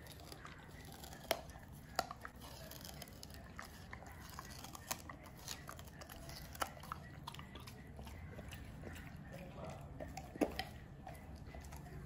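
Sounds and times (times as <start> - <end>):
dog chewing sugarcane: 0.0 - 12.0.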